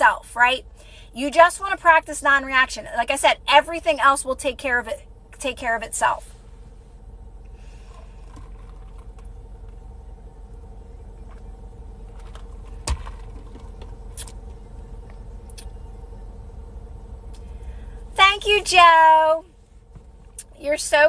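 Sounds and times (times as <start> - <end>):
faint steady tone: 0.0 - 21.0
low hum: 0.0 - 21.0.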